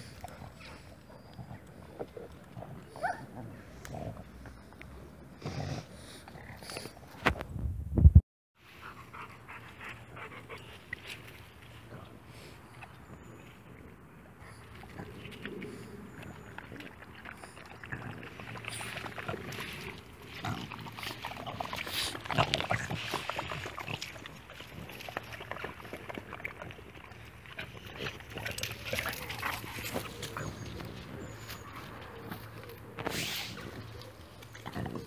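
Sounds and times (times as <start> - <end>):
dogs vocalizing while playing: 0.0 - 7.2, 8.7 - 13.7, 14.3 - 35.0.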